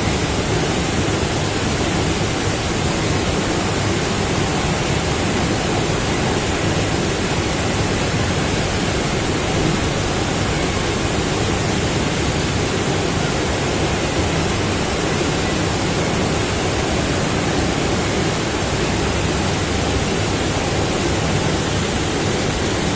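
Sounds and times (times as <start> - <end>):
water rushing up wave slope: 0.0 - 22.9.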